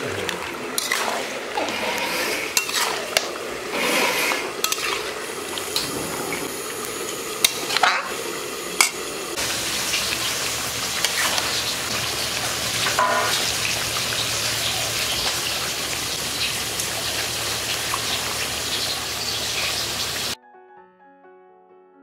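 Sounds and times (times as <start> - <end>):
meat sizzling in a pan: 0.8 - 20.4.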